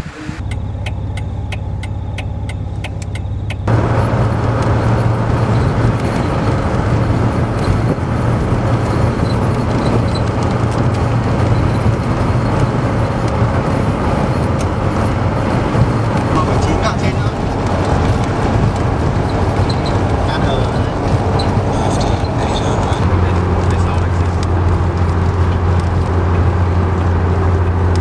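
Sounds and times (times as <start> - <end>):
car engine running: 0.0 - 28.0
road noise: 0.0 - 28.0
rapid regular ticking: 0.4 - 28.0.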